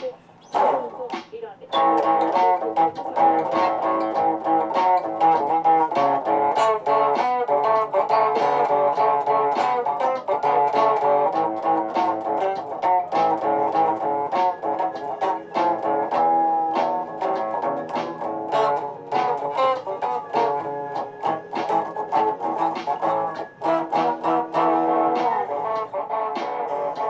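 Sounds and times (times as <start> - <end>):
guitar picking quick notes: 0.0 - 27.0.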